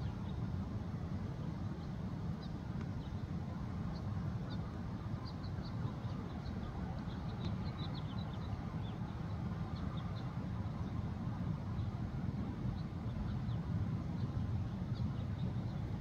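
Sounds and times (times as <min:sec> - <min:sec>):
steady low rumble: 0:00.0 - 0:16.0
small birds chirping: 0:01.7 - 0:16.0.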